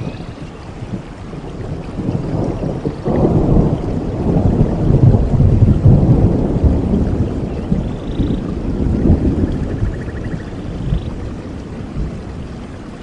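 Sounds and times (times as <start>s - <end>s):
rolling thunder: 0.0s - 13.0s
steady rain: 0.0s - 13.0s.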